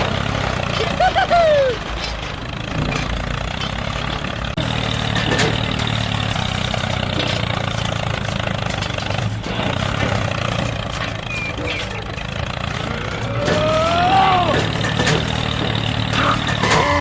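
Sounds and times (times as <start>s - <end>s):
small engine running: 3.2s - 17.0s.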